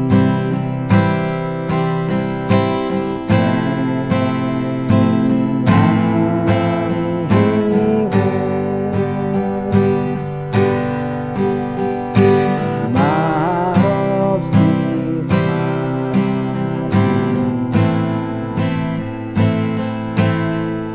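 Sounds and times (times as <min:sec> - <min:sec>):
acoustic guitar strumming: 0:00.0 - 0:20.9.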